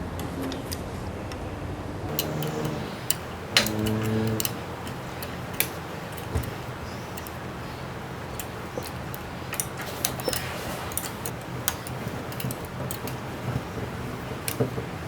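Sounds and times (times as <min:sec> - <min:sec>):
metallic clicks of tools and bolts: 0:02.1 - 0:15.0
steady low hum: 0:02.1 - 0:15.0.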